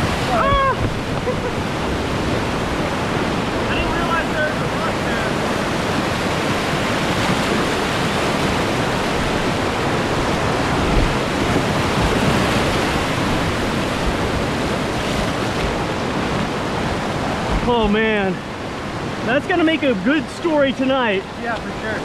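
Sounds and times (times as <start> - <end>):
whitewater rapids rushing: 0.0 - 22.0.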